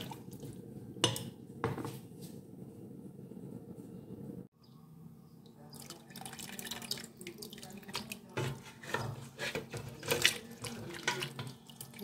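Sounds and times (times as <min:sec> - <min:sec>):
pot boiling and bubbling: 0:00.0 - 0:03.8, 0:05.8 - 0:12.0.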